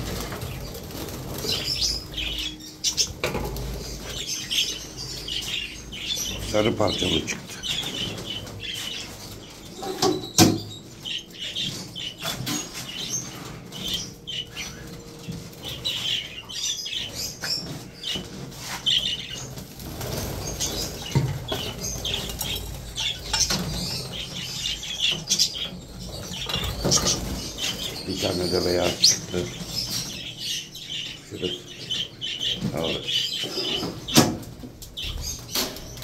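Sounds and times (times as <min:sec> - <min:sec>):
budgerigars fluttering and chirping: 0:00.0 - 0:36.0.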